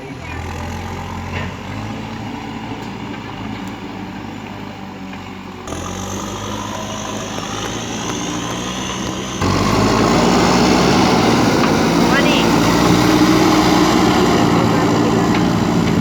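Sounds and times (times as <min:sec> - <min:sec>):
backhoe loader diesel engine running: 0:00.0 - 0:16.0.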